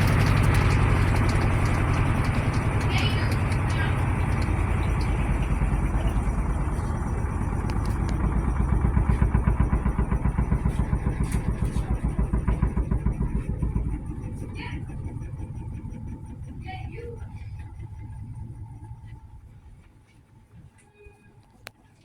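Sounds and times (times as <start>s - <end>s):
washing machine spinning: 0.0s - 20.5s.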